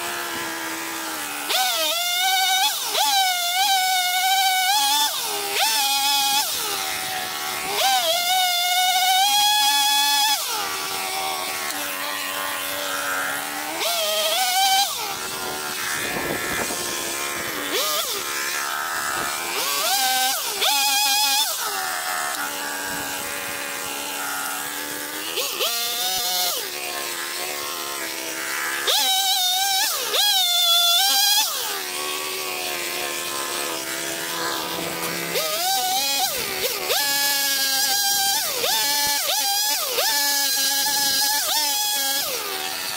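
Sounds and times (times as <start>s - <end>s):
chainsaw revving and cutting logs: 0.0s - 42.9s.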